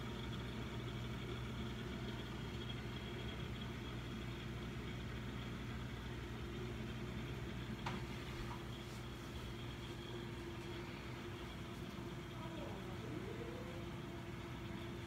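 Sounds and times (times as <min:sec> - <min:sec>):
aquarium pumps humming: 0:00.0 - 0:15.0.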